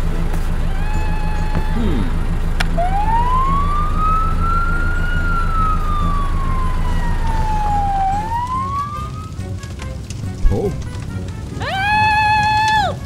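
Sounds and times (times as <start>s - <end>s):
fire engine siren wailing: 0.0s - 13.0s
low rumble: 0.0s - 13.0s.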